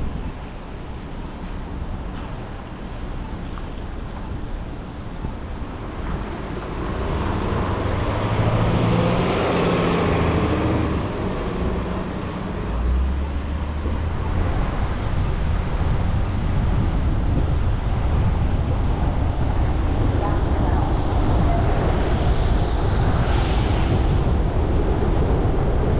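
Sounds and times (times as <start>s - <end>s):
tyres on wet road: 0.0s - 25.9s
wind on microphone: 0.0s - 25.9s.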